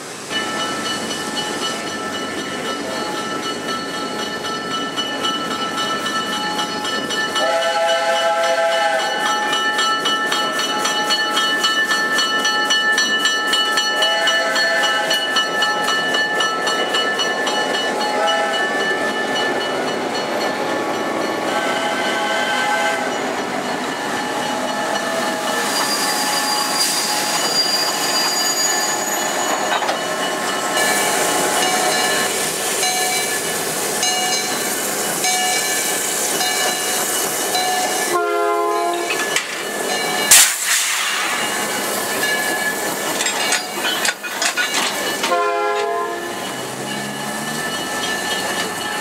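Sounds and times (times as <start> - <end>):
train rolling on rails: 0.0 - 49.0.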